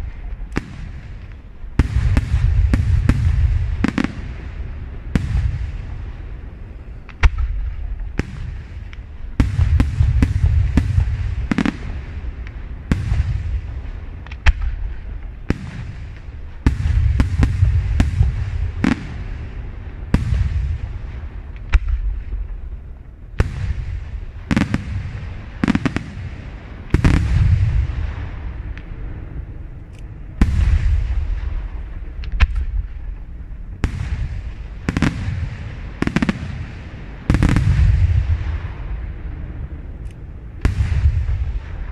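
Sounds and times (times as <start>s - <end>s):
low rolling rumble: 0.0s - 41.9s.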